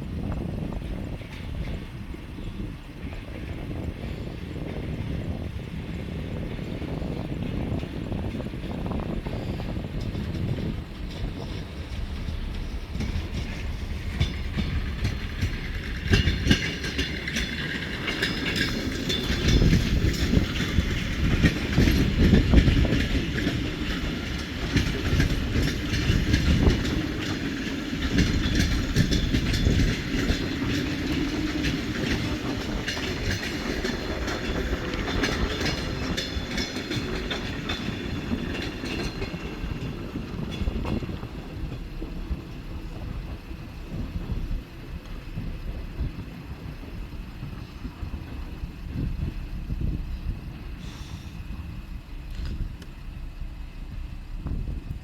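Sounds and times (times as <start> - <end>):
heavy train rumble: 0.0 - 55.0
train wheels clattering over rails: 0.0 - 55.0.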